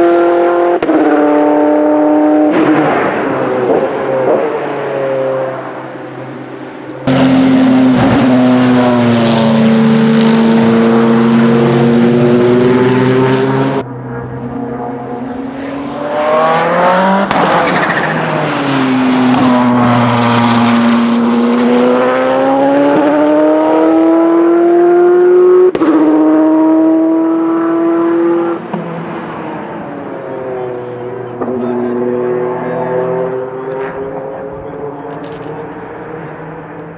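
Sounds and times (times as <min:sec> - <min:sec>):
race car engine at high revs: 0:00.0 - 0:36.9.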